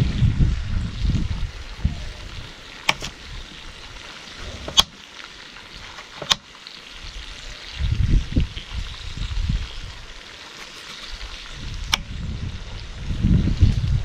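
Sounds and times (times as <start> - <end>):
faint steady hiss: 1.0 - 14.0.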